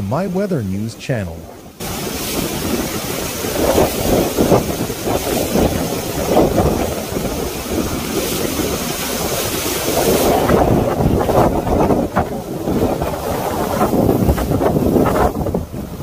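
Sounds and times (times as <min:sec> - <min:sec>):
heavy rain hissing: 0:00.0 - 0:16.0
wind gusts on microphone: 0:00.0 - 0:16.0.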